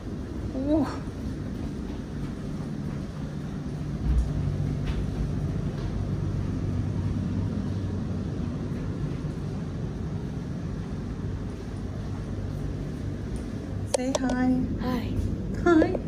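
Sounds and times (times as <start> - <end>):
metro train rumble and hum: 0.0 - 16.0.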